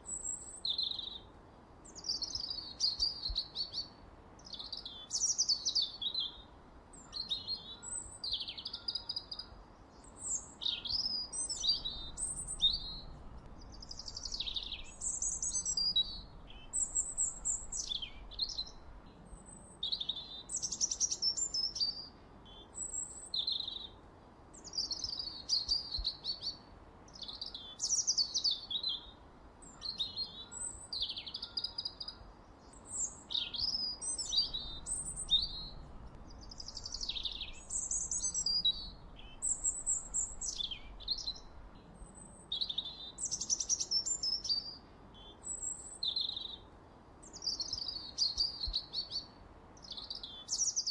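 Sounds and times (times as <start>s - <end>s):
faint steady hiss: 0.0s - 50.9s
songbird chirping: 0.0s - 50.9s.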